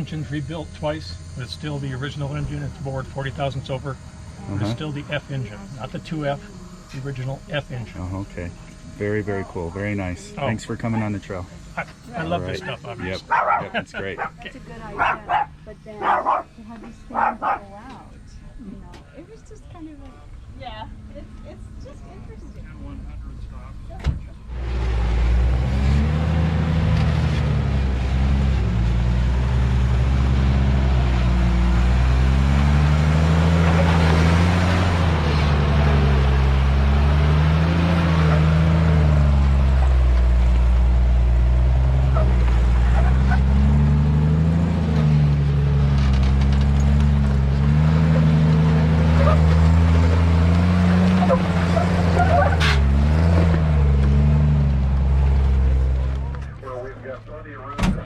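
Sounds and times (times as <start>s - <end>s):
engine revving: 0.0s - 18.0s, 20.6s - 57.8s.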